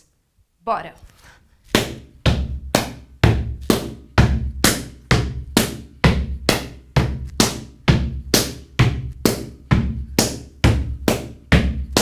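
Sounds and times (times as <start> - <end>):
steady drum beat: 1.8 - 12.0.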